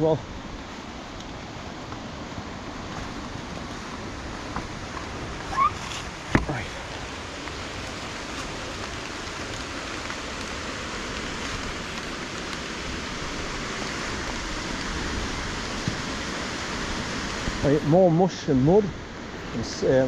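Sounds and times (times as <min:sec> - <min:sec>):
falling rain: 0:00.0 - 0:20.0
waterfall rushing: 0:00.0 - 0:20.0.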